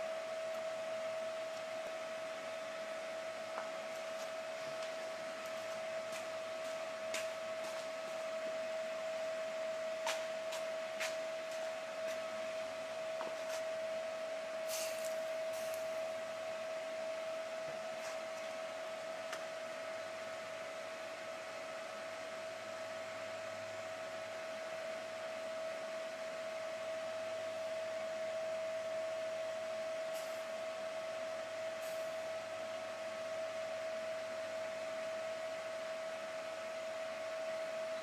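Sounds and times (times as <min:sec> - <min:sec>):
small engine whining steadily: 0:00.0 - 0:38.0.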